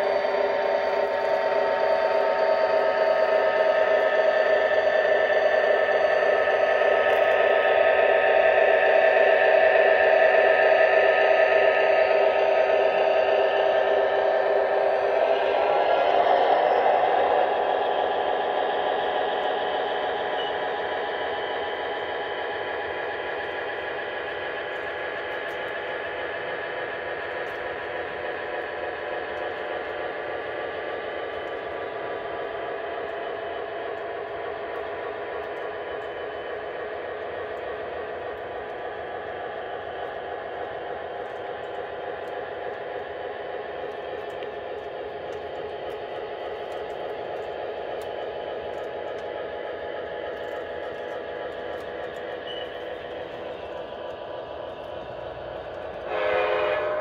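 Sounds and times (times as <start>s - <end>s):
model train cars rolling on track: 0.0s - 57.0s.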